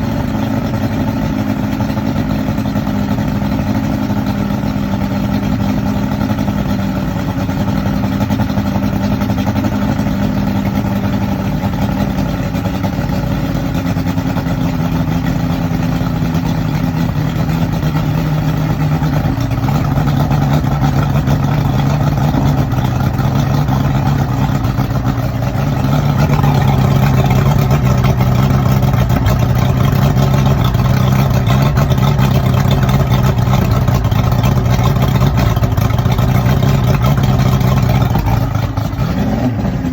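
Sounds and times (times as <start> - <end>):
outboard engine idling roughly: 0.0 - 39.9.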